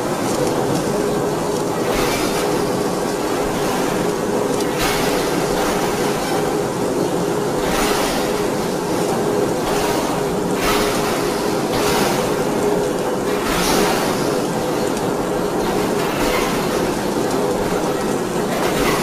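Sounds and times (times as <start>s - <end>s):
ring rolling mill rumble: 0.0s - 19.0s.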